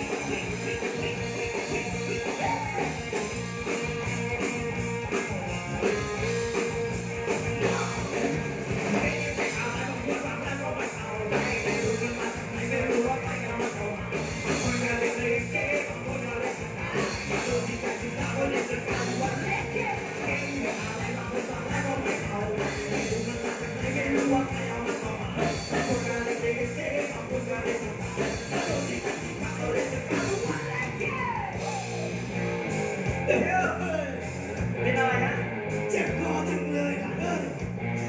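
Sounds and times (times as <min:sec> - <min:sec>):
person singing: 0:00.0 - 0:32.2
live rock band playing: 0:00.0 - 0:38.0.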